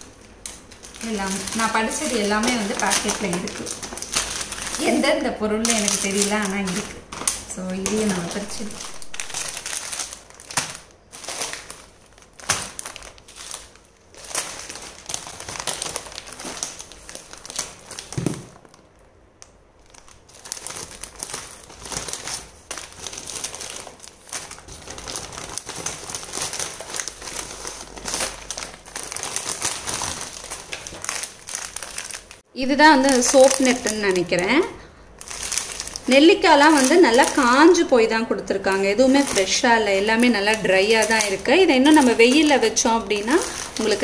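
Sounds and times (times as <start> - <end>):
plastic packets crinkling: 0.0 - 44.0.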